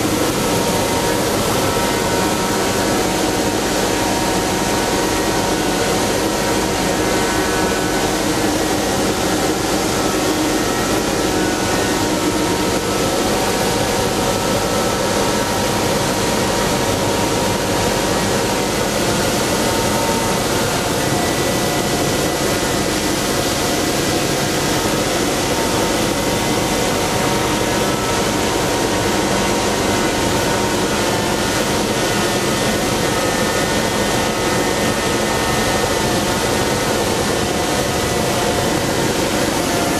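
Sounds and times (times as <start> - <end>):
ice edger machine running: 0.0 - 39.9.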